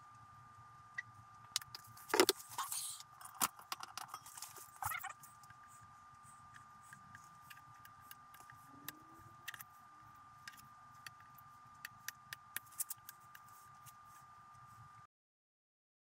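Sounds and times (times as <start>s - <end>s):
faint high-pitched whine: 0.0s - 15.1s.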